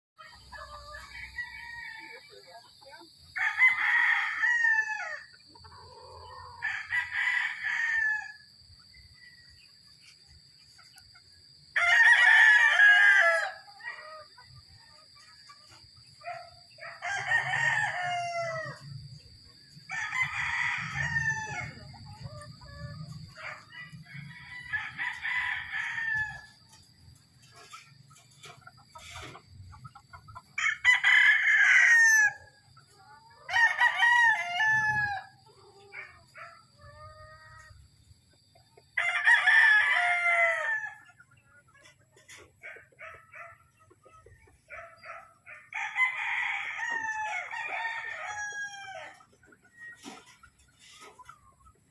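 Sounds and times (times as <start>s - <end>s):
roosters crowing: 0.2s - 9.9s, 11.0s - 38.0s, 38.8s - 41.3s, 44.6s - 51.4s.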